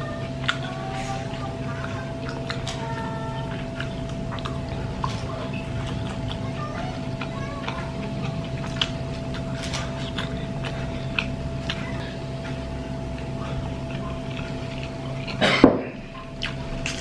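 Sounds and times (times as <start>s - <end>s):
soft chewing: 0.0s - 17.0s
steady low hum: 0.0s - 17.0s.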